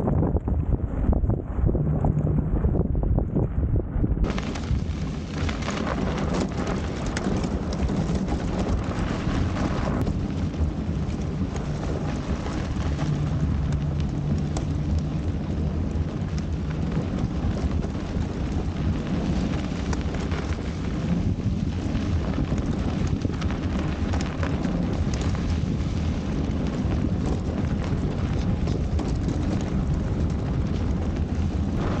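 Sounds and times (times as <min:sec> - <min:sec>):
wind rumble on microphone: 0:00.0 - 0:32.0
tyres rolling over packed snow: 0:04.2 - 0:32.0.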